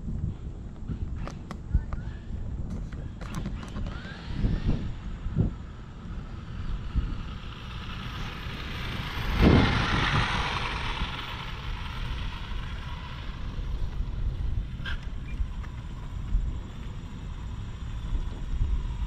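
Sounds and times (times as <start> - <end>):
wind buffeting microphone: 0.0 - 19.0
rc car high-pitched whine passing: 3.0 - 19.0.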